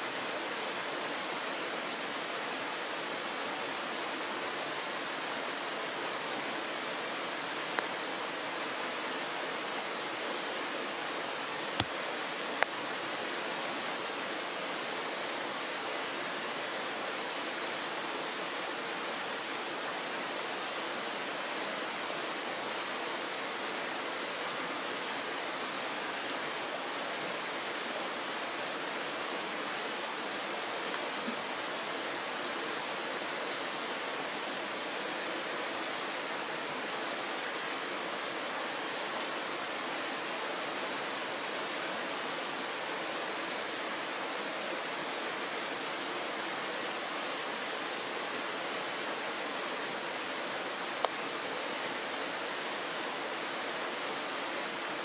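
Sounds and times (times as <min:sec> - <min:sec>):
stream rushing over pebbles: 0:00.0 - 0:55.0.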